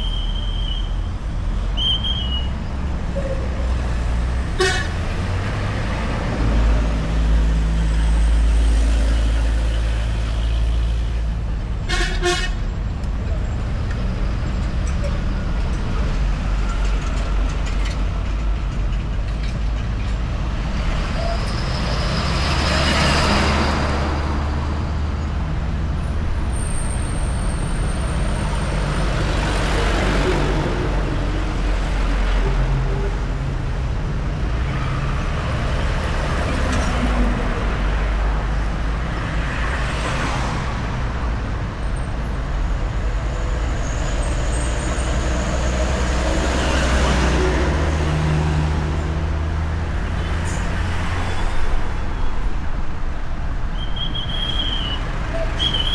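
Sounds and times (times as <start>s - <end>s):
road traffic rumble: 0.0s - 55.9s
vehicles passing: 0.0s - 55.9s.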